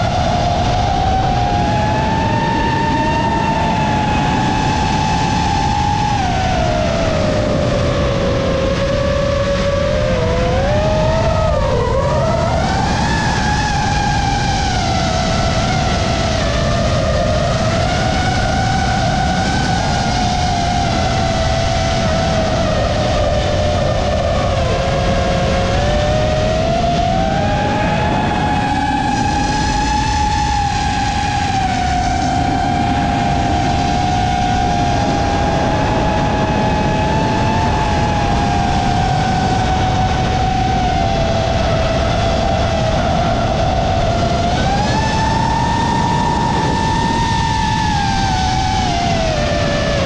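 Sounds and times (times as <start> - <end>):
drone motors whining: 0.0 - 50.0
wind rushing: 0.0 - 50.0.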